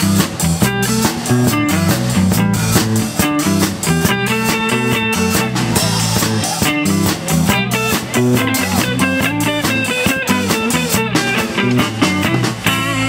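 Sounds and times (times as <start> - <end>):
rock band instrumental: 0.0 - 13.0.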